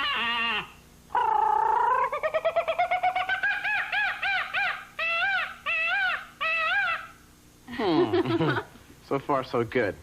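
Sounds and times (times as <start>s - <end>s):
person imitating animal calls: 0.0s - 8.2s.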